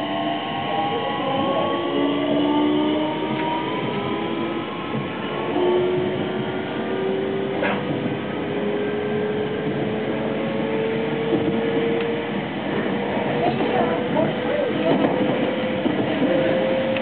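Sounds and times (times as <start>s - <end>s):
electric train motor whine: 0.0s - 14.6s
wheels rumbling on rail: 0.0s - 17.0s.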